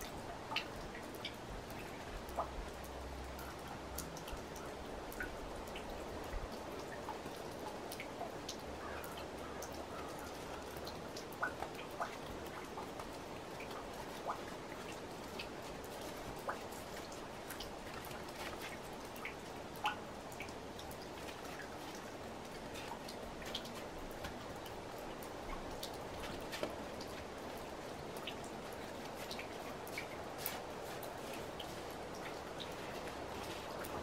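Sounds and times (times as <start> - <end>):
water dripping: 0.0 - 34.0.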